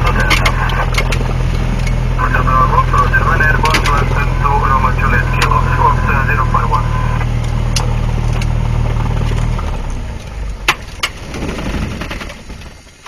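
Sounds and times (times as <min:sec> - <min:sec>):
aircraft engine idling: 0:00.0 - 0:13.0.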